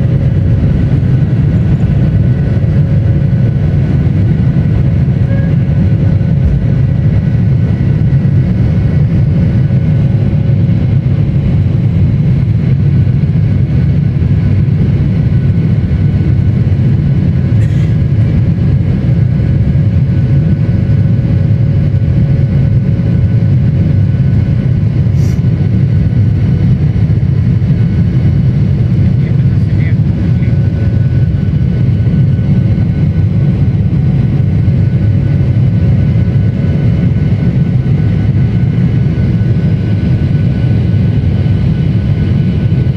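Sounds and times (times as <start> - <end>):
jet engines at takeoff power: 0.0 - 42.9.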